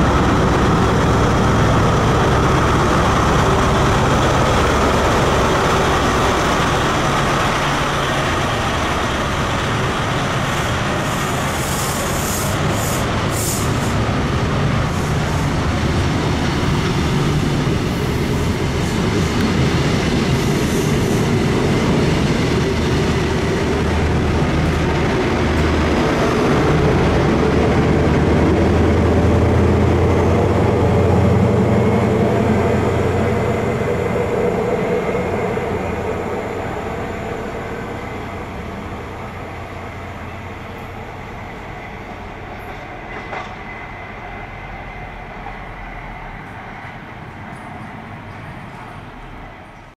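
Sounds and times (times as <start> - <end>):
diesel engine rumble: 0.0 - 49.9
train wheels on rail: 0.0 - 49.9.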